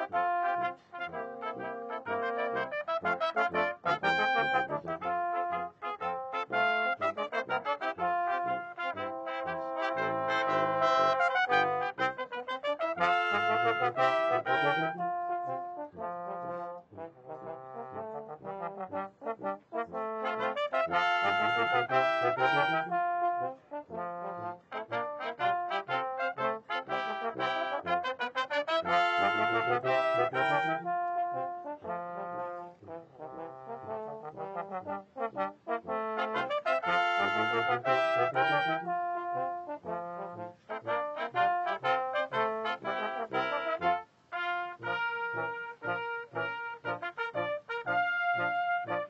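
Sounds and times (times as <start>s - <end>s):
brass band playing chords: 0.0s - 49.0s.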